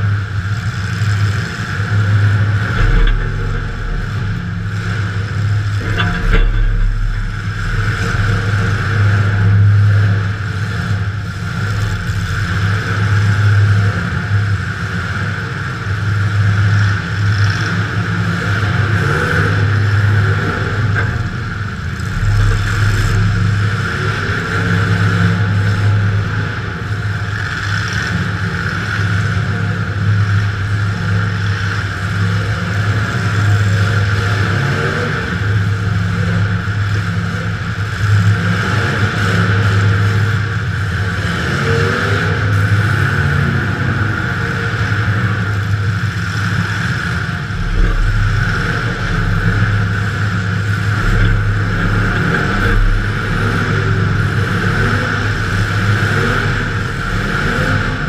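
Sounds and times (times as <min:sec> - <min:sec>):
car engine drone: 0:00.0 - 0:58.0.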